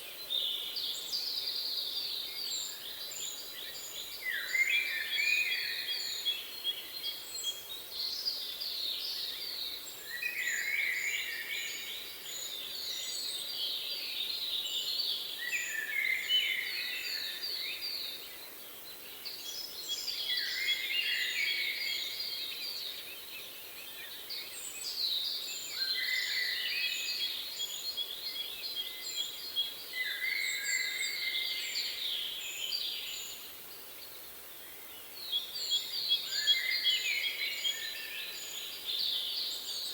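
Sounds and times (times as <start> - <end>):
faint steady background hiss: 0.0 - 39.9.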